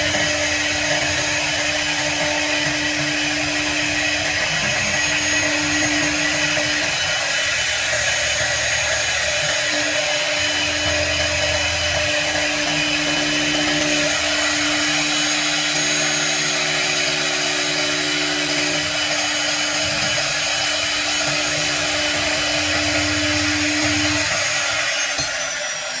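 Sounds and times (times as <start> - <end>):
lower motor tones: 0.0 - 26.0
router spindle high whine: 0.0 - 26.0.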